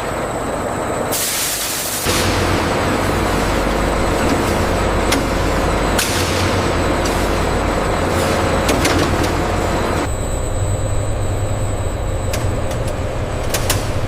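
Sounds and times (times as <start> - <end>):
industrial machinery running: 0.0 - 14.0
low hum: 0.0 - 14.0.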